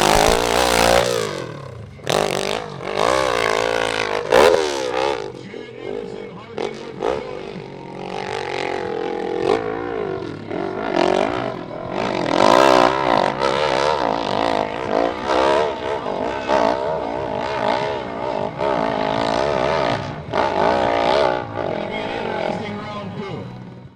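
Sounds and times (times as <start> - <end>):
motorcycle engine at high revs: 0.0 - 23.5.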